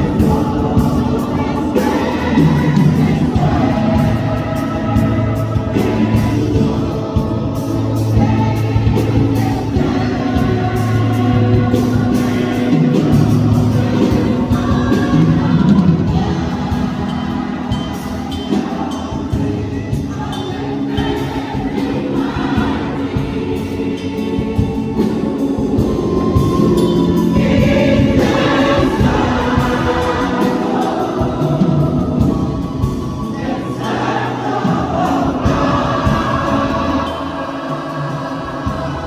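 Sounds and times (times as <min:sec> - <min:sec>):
choir singing in harmony: 0:00.0 - 0:39.0
instrumental accompaniment: 0:00.0 - 0:39.0.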